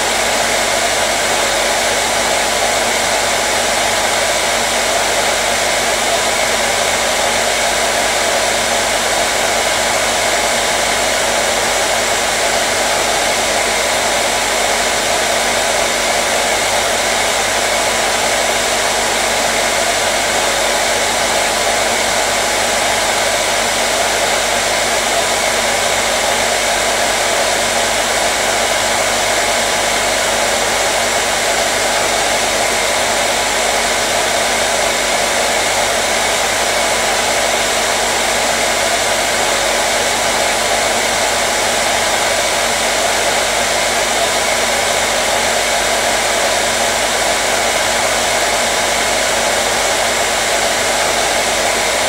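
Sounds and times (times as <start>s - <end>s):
hair dryer whooshing: 0.0s - 52.0s.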